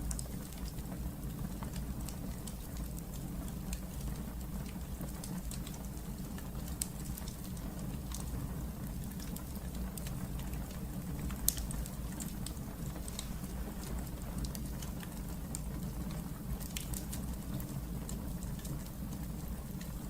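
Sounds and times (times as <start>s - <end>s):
fire crackling and popping: 0.0s - 20.0s
low rumble of fire: 0.0s - 20.0s.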